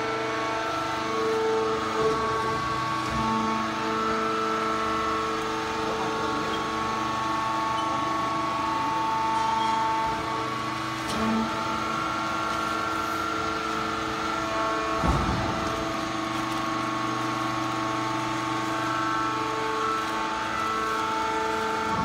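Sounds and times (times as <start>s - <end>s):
baler machine hum with whining tones: 0.0s - 22.0s.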